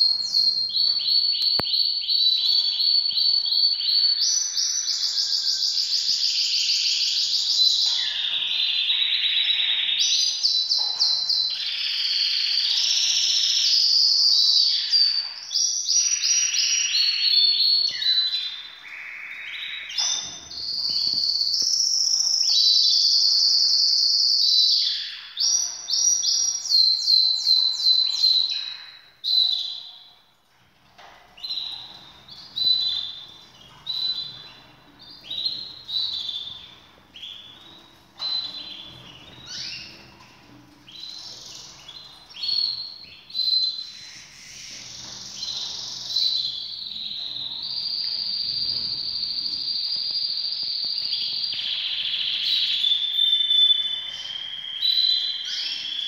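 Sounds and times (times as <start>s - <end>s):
canaries singing trills: 0.0s - 56.0s.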